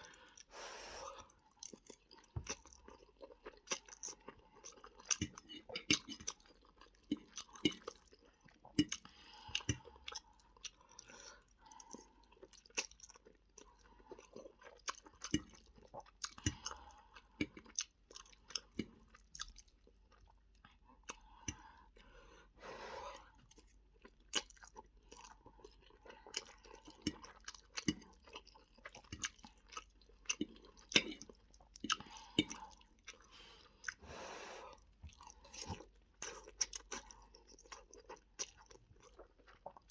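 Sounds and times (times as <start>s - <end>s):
person chewing: 0.0s - 22.1s, 23.2s - 39.9s.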